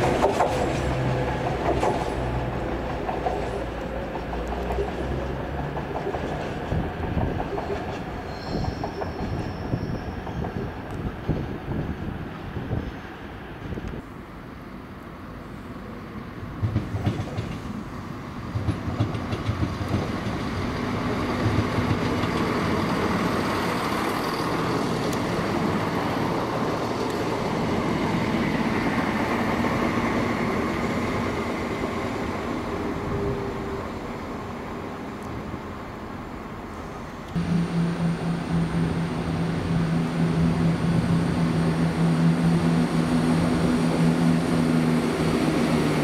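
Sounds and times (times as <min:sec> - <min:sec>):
train passing: 0:00.0 - 0:46.0.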